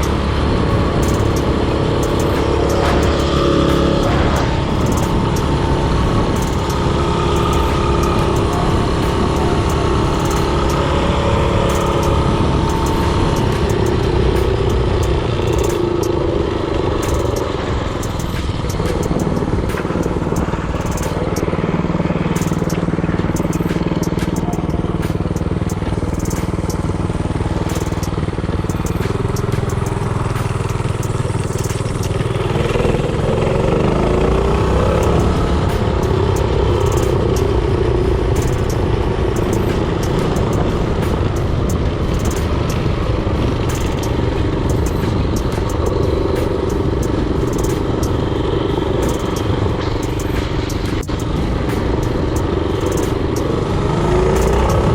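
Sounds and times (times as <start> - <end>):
mini bike engine running: 0.0 - 54.9.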